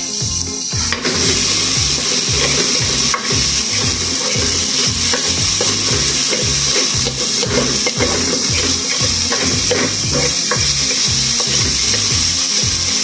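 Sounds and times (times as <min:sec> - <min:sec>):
onion and garlic sizzling: 0:00.0 - 0:13.0
spoon scraping pot bottom: 0:00.8 - 0:13.0.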